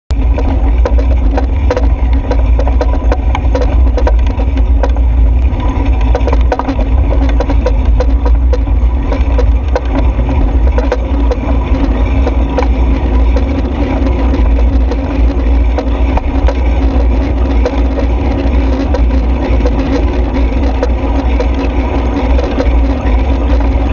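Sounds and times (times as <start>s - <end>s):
wind and road noise: 0.1s - 23.9s.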